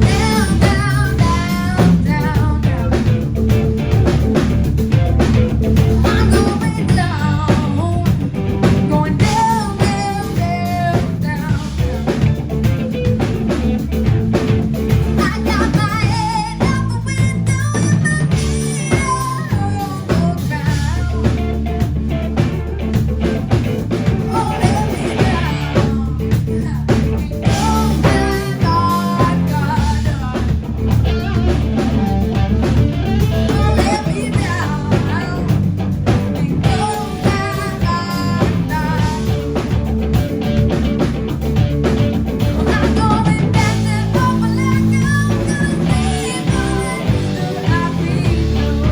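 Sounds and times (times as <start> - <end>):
bass: 0.0 - 48.9
drum kit: 0.0 - 48.9
electric guitar: 0.0 - 48.9.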